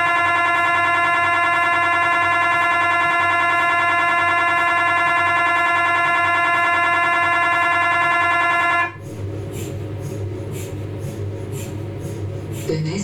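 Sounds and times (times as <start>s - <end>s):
low scanner hum: 0.0s - 13.0s
mri scanner buzzing loudly: 0.0s - 13.0s.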